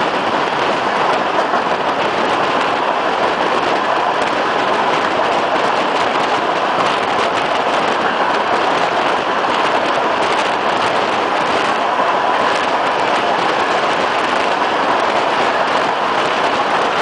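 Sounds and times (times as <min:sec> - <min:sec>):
air rushing past train: 0:00.0 - 0:17.0
train wheels on rails: 0:00.0 - 0:17.0.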